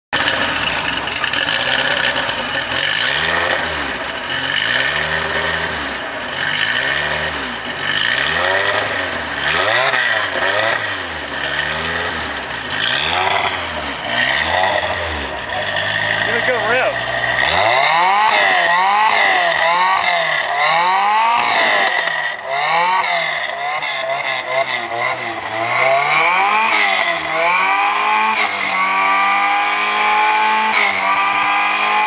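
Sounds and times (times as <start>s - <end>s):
car engine revving: 0.2s - 32.0s.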